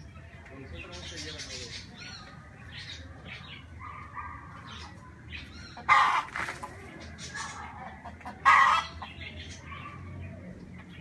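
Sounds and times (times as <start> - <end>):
birds chirping: 0.0 - 11.0
harsh bird calls: 0.0 - 11.0.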